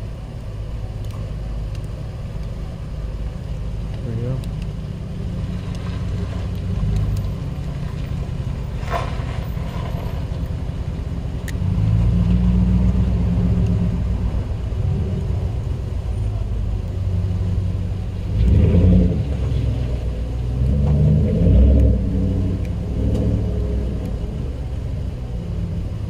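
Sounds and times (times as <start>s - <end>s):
low uneven rumble: 0.0s - 26.0s.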